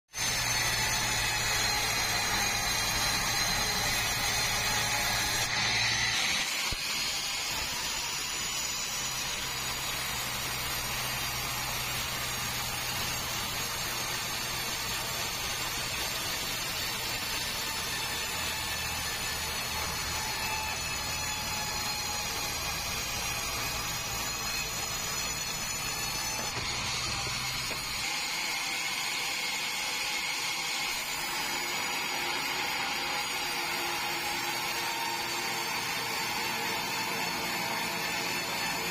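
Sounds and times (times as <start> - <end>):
band saw whining: 0.1 - 38.9.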